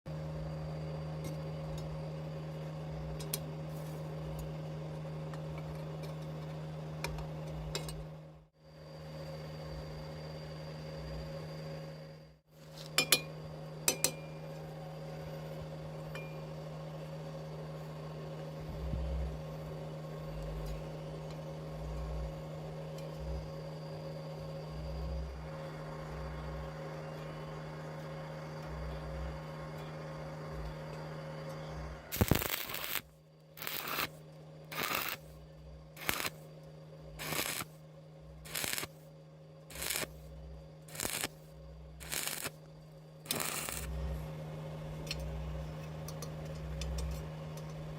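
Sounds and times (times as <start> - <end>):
electrical hum: 0.1 - 47.9.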